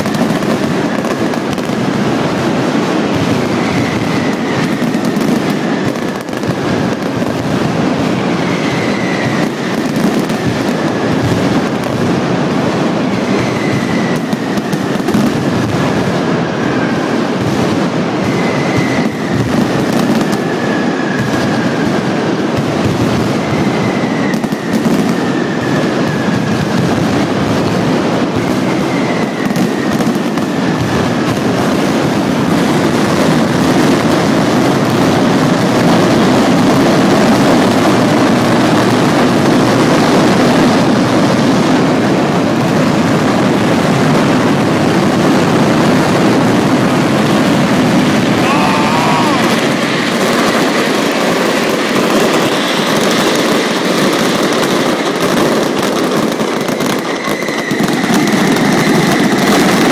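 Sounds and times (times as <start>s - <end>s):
firecracker barrage crackling: 0.0s - 59.9s.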